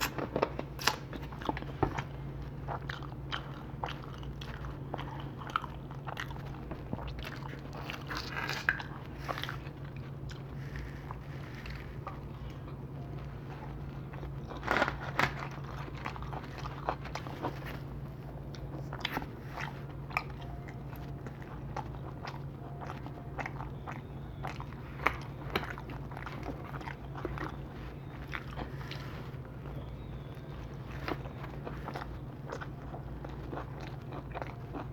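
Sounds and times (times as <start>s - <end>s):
chewing and biting pizza: 0.0s - 34.9s
low hum: 0.0s - 34.9s.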